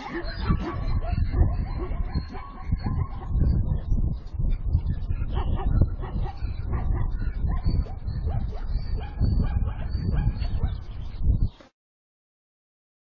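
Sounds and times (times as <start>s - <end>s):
animal whimpering and yipping: 0.0s - 11.0s.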